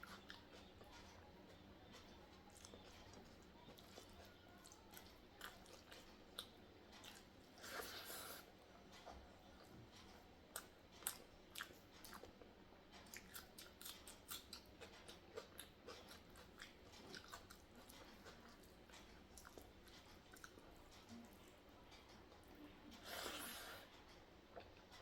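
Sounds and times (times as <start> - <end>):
chewing with wet mouth clicks: 1.9 - 21.4, 22.0 - 25.0.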